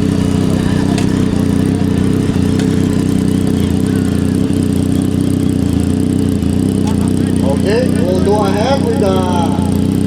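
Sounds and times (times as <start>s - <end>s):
engine idling through loud exhaust: 0.0s - 10.0s.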